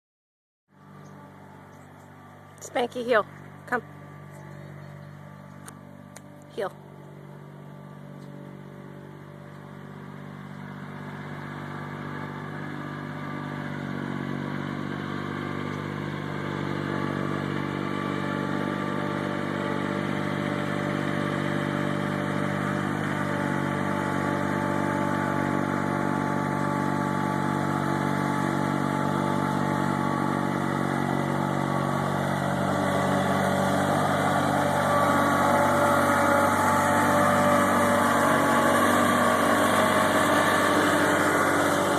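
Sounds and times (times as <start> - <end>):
tractor engine running: 0.8 - 41.9.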